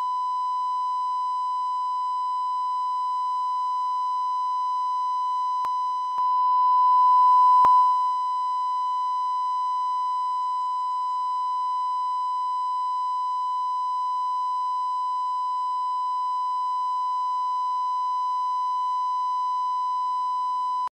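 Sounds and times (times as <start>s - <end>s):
broadcast test tone beep: 0.0s - 20.9s.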